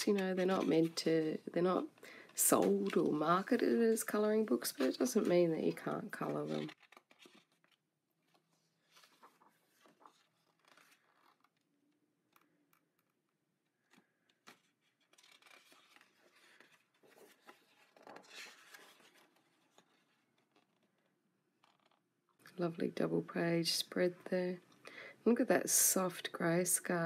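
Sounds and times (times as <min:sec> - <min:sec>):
paper pages rustling: 0:00.0 - 0:22.1.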